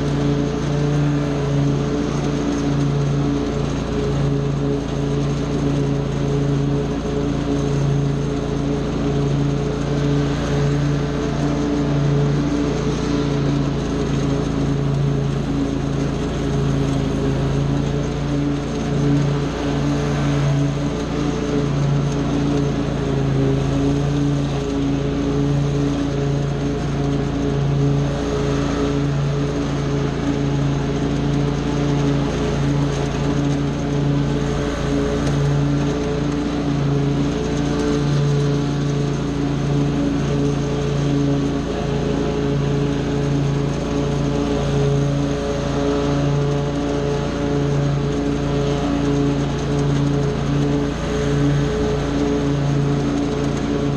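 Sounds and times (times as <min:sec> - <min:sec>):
small gasoline engine running: 0:00.0 - 0:53.9.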